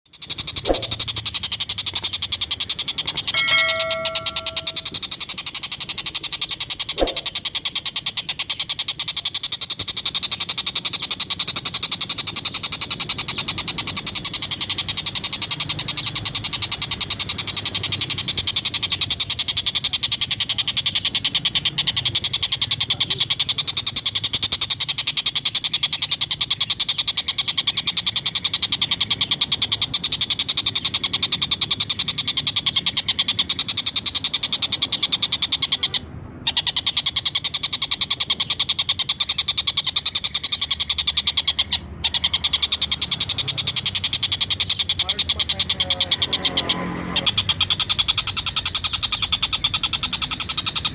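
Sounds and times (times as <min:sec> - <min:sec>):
kingfisher cackling chatter: 0:00.2 - 0:50.9.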